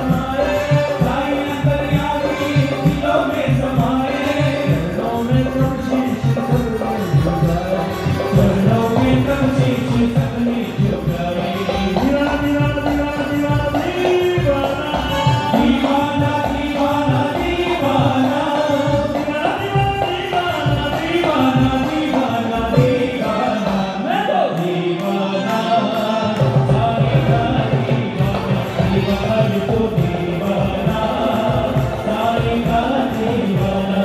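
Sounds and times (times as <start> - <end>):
hand drums rhythm: 0.0 - 34.0
man singing amplified: 0.0 - 34.0.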